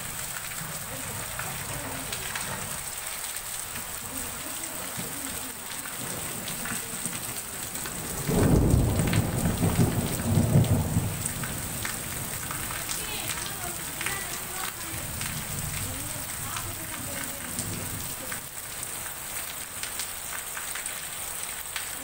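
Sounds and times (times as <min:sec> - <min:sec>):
thunder rumbling: 0:00.0 - 0:18.4
heavy rain: 0:00.0 - 0:22.0.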